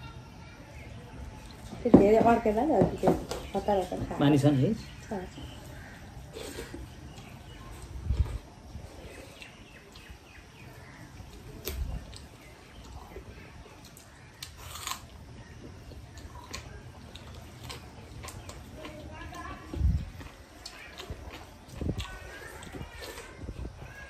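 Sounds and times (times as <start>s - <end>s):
people eating from metal plates: 0.8s - 24.0s.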